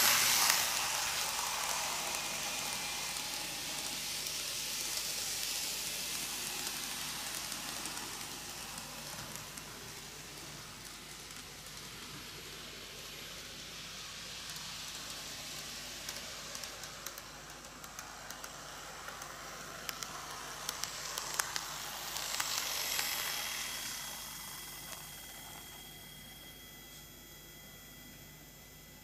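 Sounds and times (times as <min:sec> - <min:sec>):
model train wheels and motors whirring: 0:00.0 - 0:29.0
thin high whine: 0:00.0 - 0:29.0.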